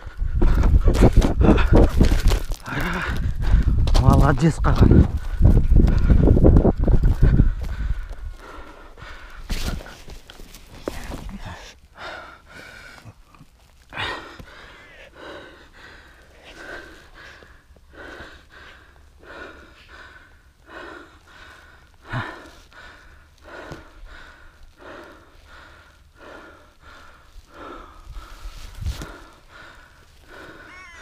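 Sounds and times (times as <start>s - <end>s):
person breathing hard: 0.0s - 3.8s, 5.0s - 31.0s.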